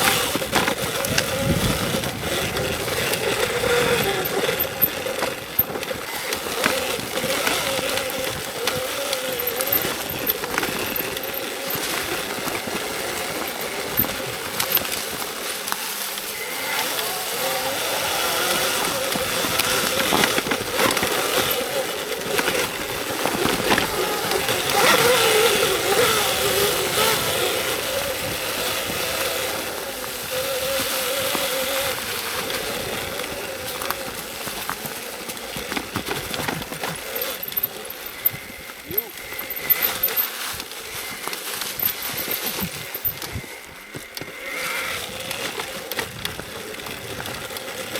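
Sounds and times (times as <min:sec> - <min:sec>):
electric motor whining: 0:00.0 - 0:47.9
knocks and rattles from riding: 0:00.0 - 0:47.9.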